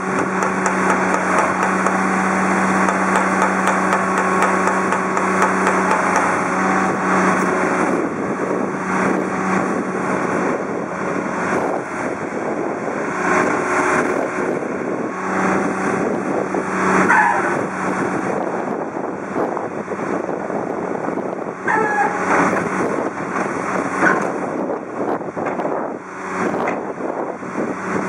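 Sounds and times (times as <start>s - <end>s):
excavator diesel engine and hydraulics: 0.0s - 28.0s.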